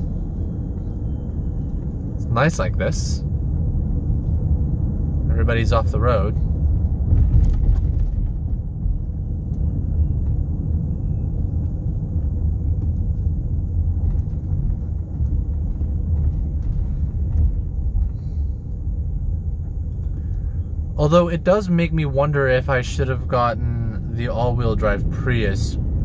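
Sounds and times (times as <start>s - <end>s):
tyre and road noise in car: 0.0s - 26.0s.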